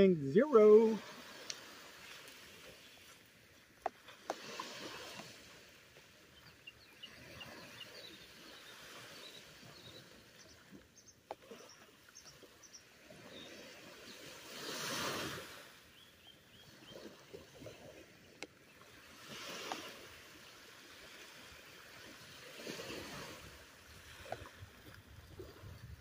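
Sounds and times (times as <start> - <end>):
surf washing on beach: 0.0 - 26.0.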